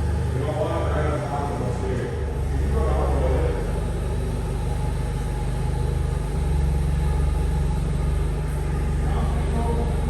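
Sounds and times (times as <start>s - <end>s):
vehicle engine running low: 0.0s - 10.0s.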